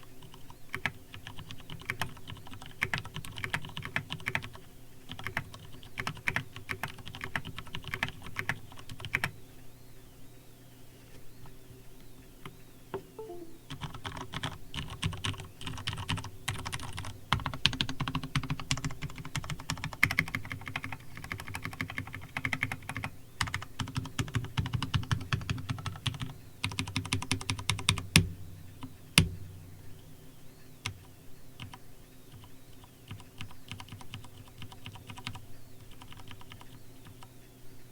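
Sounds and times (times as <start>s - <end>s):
mechanical keyboard typing: 0.2s - 9.3s, 13.2s - 28.9s, 31.6s - 37.3s.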